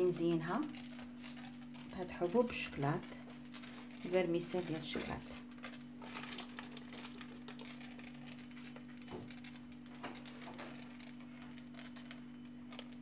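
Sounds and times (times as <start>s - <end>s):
sprinkles pattering: 0.0s - 13.0s
steady low hum: 0.0s - 13.0s.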